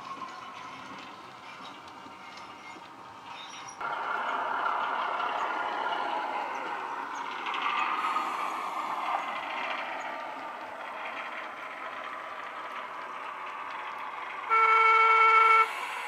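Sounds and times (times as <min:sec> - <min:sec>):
model train diesel engine sound: 0:00.0 - 0:16.0.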